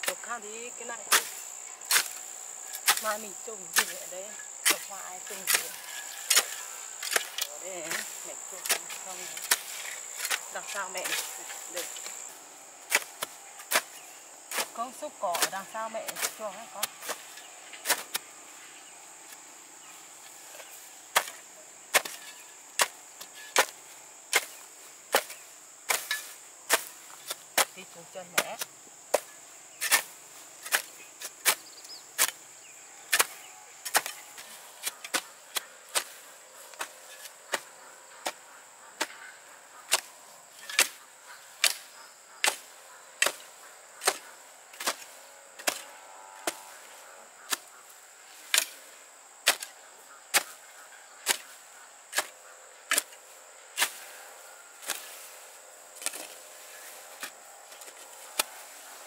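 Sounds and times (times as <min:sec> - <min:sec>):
insects shrilling: 0:00.0 - 0:59.0
hoe chopping into soil: 0:01.1 - 0:18.3, 0:20.4 - 0:32.4, 0:33.1 - 0:38.4, 0:39.9 - 0:47.8, 0:48.4 - 0:48.8, 0:49.4 - 0:49.7, 0:50.3 - 0:50.6, 0:51.2 - 0:54.2, 0:54.8 - 0:58.9.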